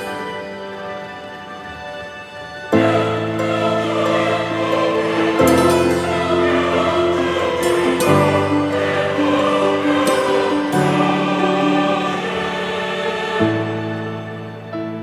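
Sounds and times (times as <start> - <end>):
choir-like voices holding chords: 0.0 - 15.0.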